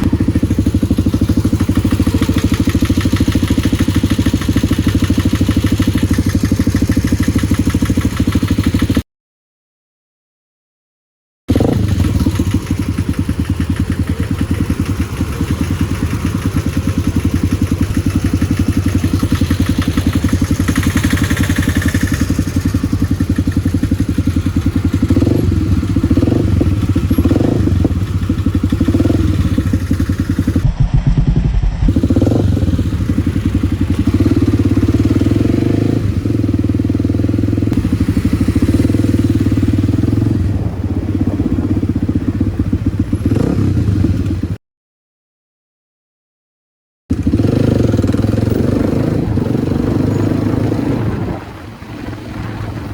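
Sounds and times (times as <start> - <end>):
motorcycle engine running: 0.0 - 9.0, 11.5 - 44.6, 47.1 - 52.9.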